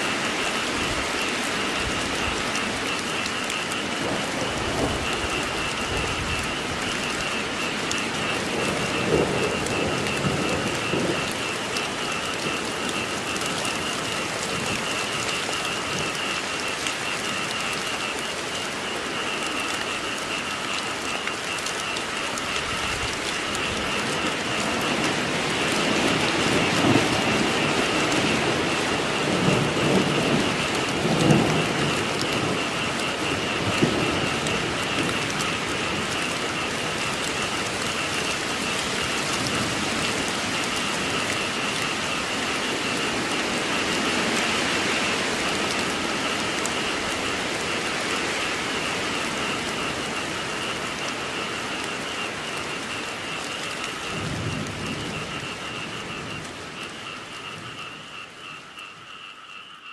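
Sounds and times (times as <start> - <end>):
thunder rumbling: 0.0 - 58.6
frogs calling: 0.0 - 59.9
steady rain falling: 0.0 - 59.9.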